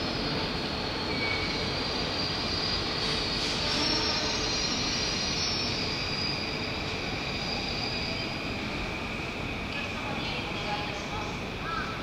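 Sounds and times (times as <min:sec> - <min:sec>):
train wheels squealing: 0:00.0 - 0:10.2
low train rumble: 0:00.0 - 0:12.0.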